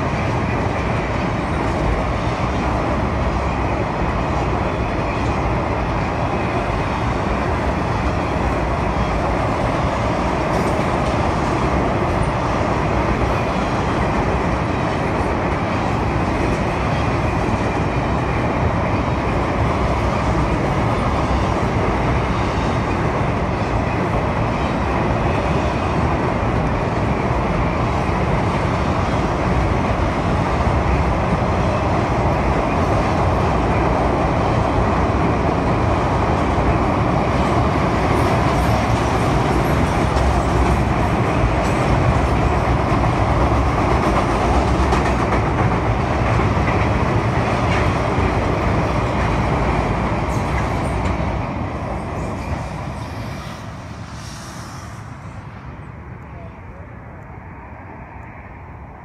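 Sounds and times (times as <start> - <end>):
freight cars rumbling on bridge: 0.0 - 59.0.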